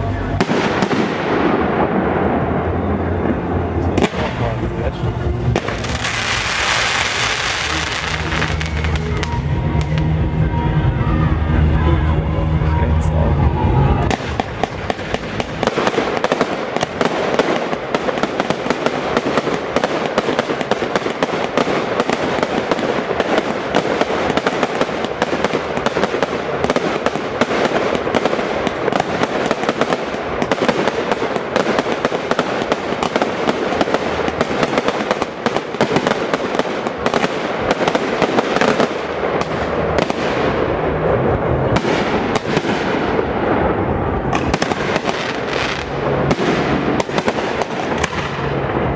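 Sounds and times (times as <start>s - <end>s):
fireworks crackling: 0.0s - 10.7s, 11.6s - 48.9s.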